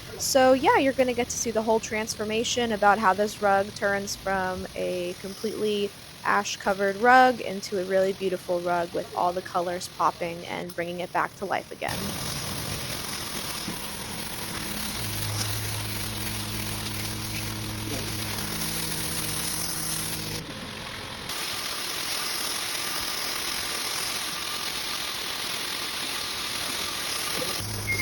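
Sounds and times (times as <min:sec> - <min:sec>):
machine motor hum: 0:00.0 - 0:28.0
water spraying hiss: 0:00.1 - 0:20.4, 0:21.3 - 0:28.0.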